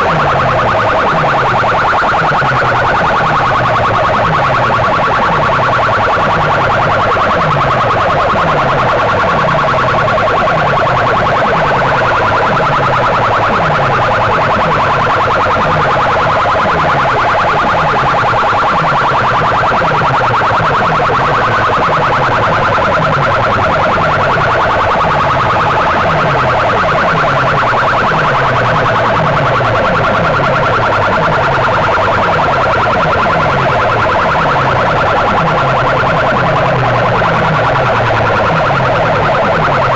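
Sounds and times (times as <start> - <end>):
distorted siren-like electronic music: 0.0 - 39.9.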